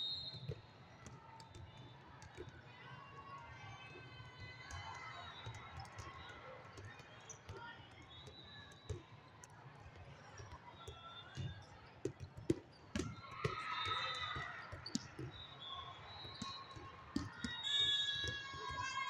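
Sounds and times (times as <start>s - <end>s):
voices of players and spectators: 0.0s - 19.0s.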